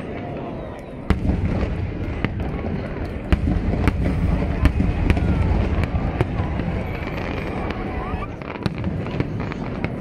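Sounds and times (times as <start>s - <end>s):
fireworks bursts rumbling: 0.0s - 10.0s
fireworks sharp cracks: 1.0s - 10.0s.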